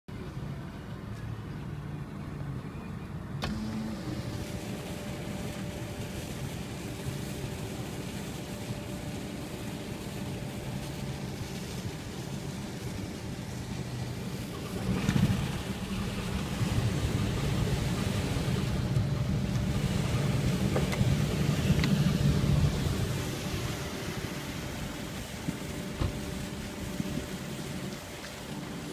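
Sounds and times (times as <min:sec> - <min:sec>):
propeller churning water: 0:00.1 - 0:28.9
ship diesel engine drone: 0:00.1 - 0:28.9.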